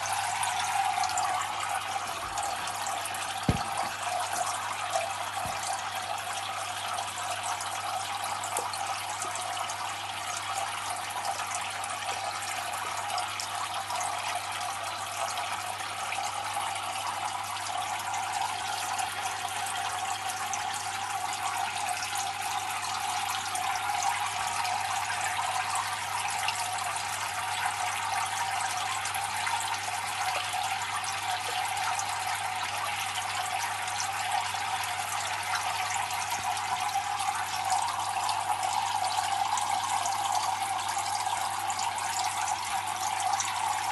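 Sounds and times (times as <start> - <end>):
water trickling into a tank: 0.0 - 43.9.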